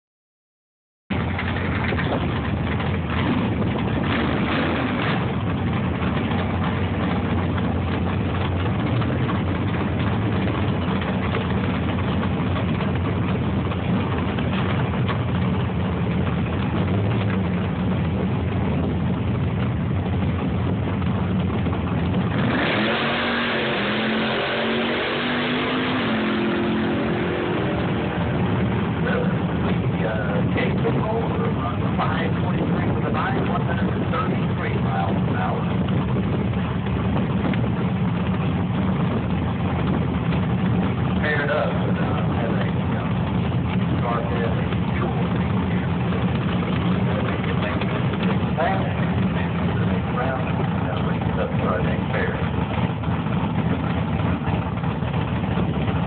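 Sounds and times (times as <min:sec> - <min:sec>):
car engine revving: 0:01.1 - 0:56.0
drag racing car engines running: 0:01.1 - 0:56.0.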